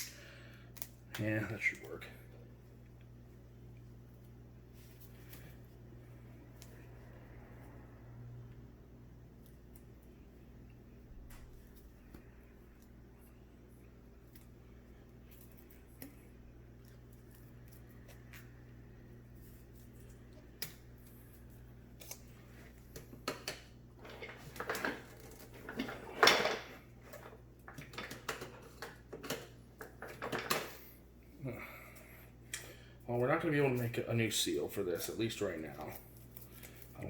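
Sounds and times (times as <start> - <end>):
faint room hum: 0.0 - 37.0.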